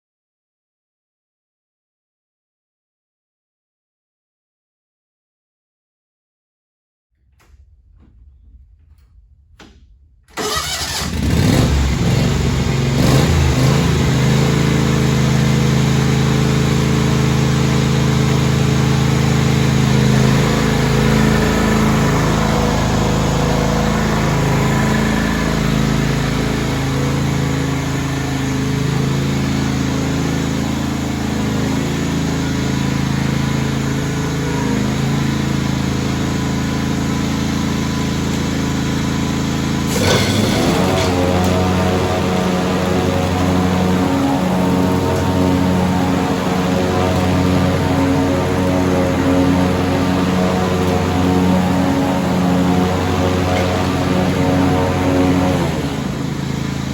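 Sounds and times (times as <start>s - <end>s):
lawn tractor engine starting: 7.2s - 56.9s.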